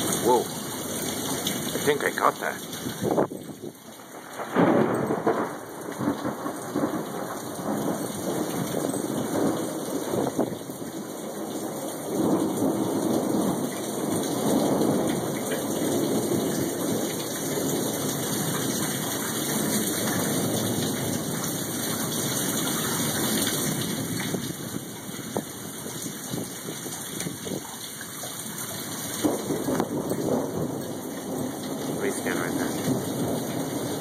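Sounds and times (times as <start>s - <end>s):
steady rain: 0.0s - 34.0s
thunder rumbling: 0.0s - 34.0s.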